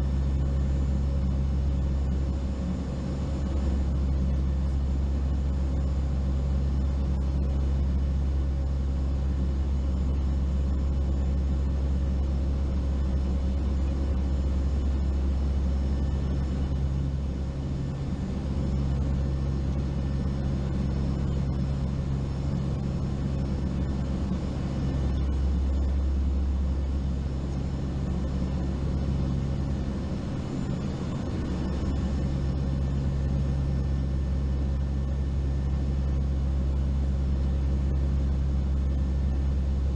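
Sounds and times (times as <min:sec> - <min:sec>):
turboprop aircraft engine drone: 0:00.0 - 0:39.9.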